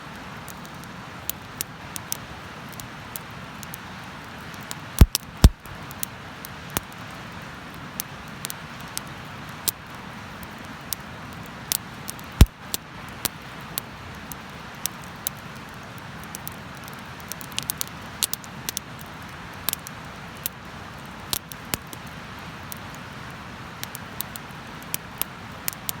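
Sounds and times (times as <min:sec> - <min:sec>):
bonfire crackling and popping: 0:00.1 - 0:26.0.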